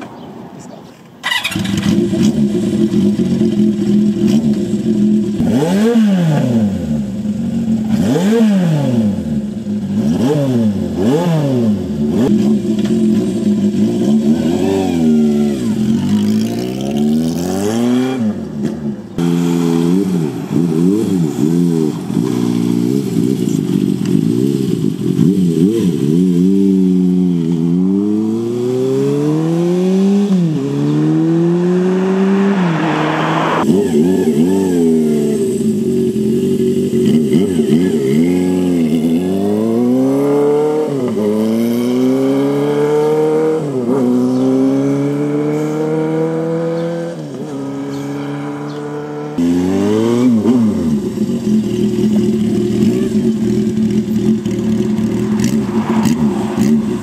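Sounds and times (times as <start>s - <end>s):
motorcycle accelerating through gears: 1.2s - 57.0s
motorcycle engine revving: 1.2s - 57.0s.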